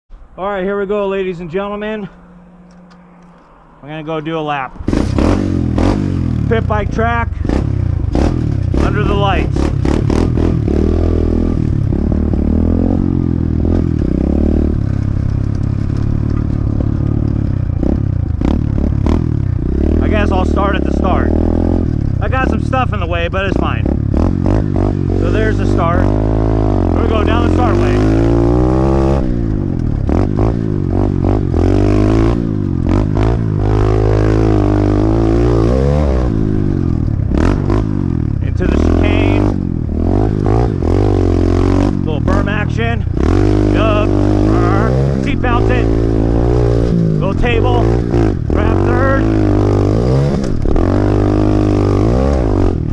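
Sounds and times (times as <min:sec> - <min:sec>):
pit bike engine revving: 0:01.7 - 0:52.9.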